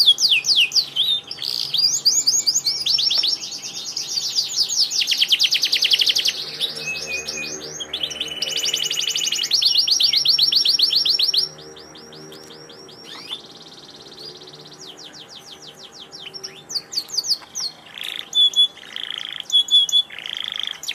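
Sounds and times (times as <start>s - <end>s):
canary singing trills: 0.0s - 20.9s.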